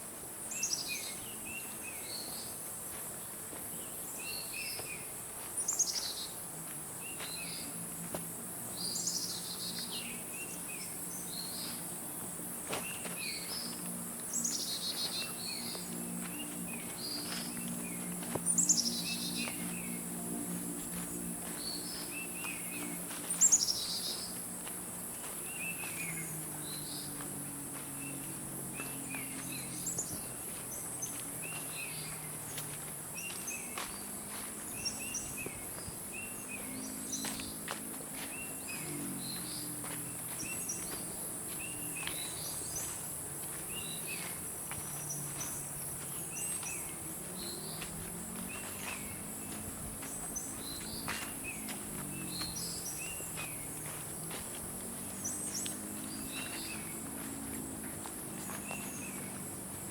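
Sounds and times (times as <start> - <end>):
footsteps on trail: 0.0 - 59.9
high insect drone: 0.0 - 59.9
birds chirping: 0.4 - 59.9.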